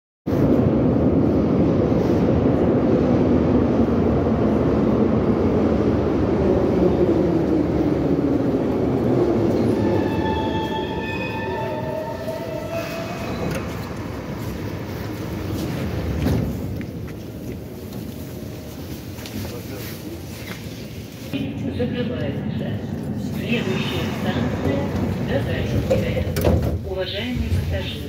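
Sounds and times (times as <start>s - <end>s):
metro train rumbling: 0.3s - 28.0s.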